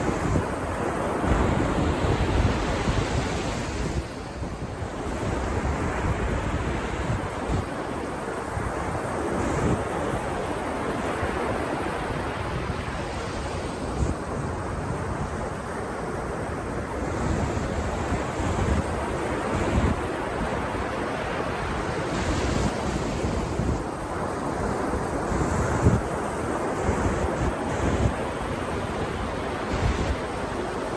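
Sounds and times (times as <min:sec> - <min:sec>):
wind rumbling on microphone: 0:00.0 - 0:30.9.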